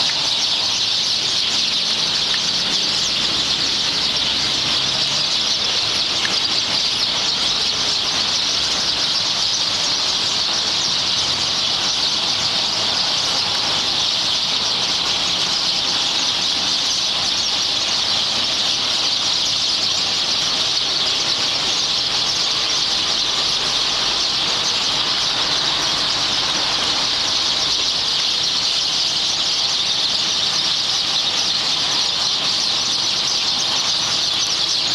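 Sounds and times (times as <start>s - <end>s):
flock of songbirds chirping: 0.0s - 34.9s.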